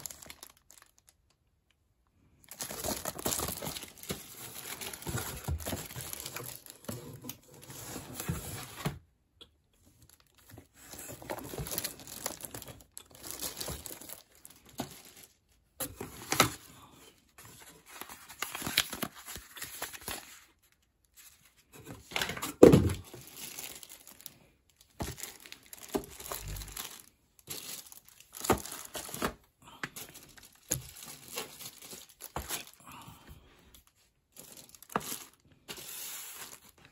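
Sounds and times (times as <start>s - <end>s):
plastic and paper crinkling: 0.0s - 1.7s, 2.4s - 9.0s, 9.8s - 32.8s, 33.7s - 36.9s.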